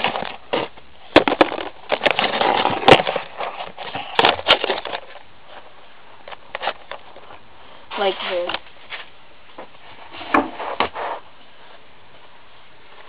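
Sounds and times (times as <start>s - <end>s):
close-up rustling and handling: 0.0s - 13.0s.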